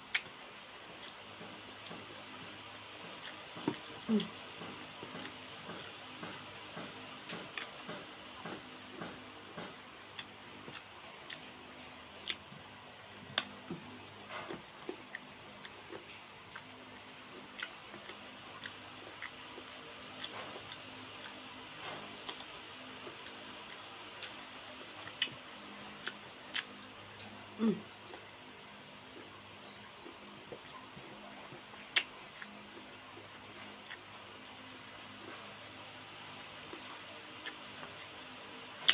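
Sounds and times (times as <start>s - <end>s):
person chewing with wet smacks: 0.0s - 38.9s.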